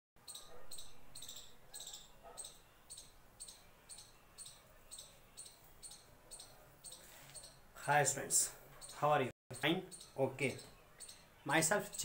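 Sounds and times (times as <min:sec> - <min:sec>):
high-pitched pulsed chirping: 0:00.3 - 0:07.6, 0:08.8 - 0:12.0.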